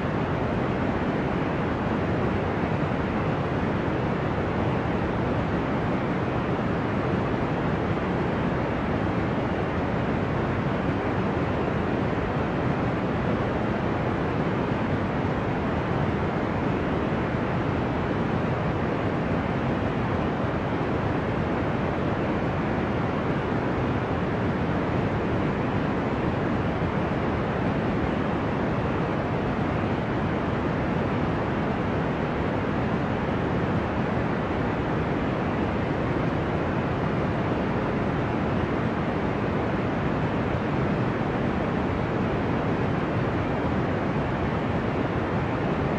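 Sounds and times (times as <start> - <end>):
deep white noise rush: 0.0 - 45.9.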